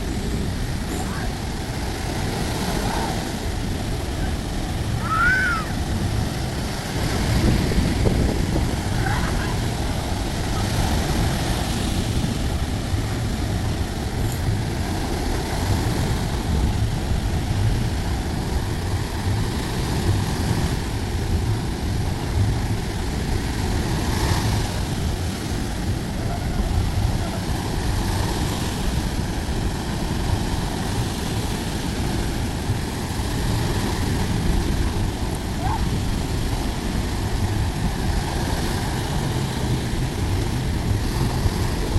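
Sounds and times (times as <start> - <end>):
sea surf waves rumbling: 0.0 - 41.9
wave breaking: 0.0 - 41.9.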